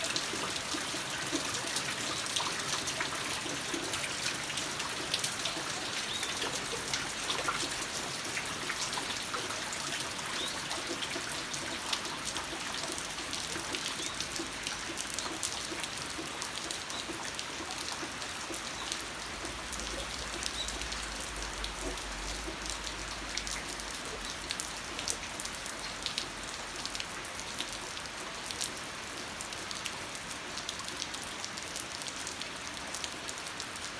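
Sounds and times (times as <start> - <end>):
raindrops ticking on surfaces: 0.0 - 33.9
steady rain: 0.0 - 33.9.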